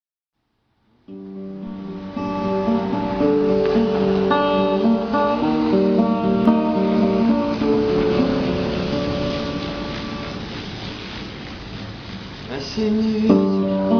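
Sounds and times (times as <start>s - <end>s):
acoustic guitar chords: 1.0s - 13.9s.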